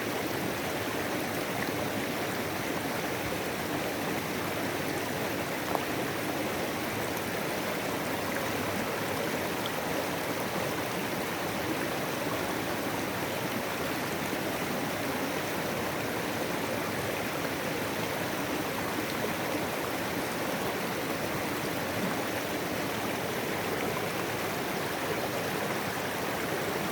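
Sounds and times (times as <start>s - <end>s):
stream flowing: 0.0s - 26.9s.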